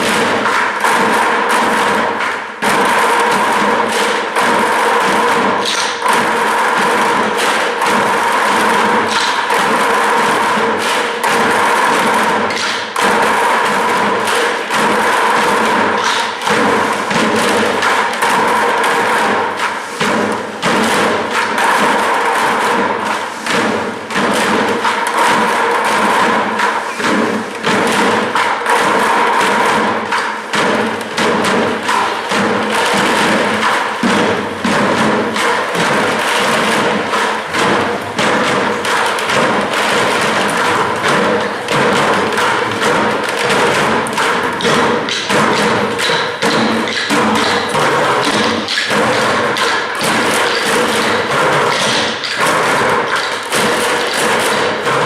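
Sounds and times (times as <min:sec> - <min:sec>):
percussive thumping music: 0:00.0 - 0:55.0.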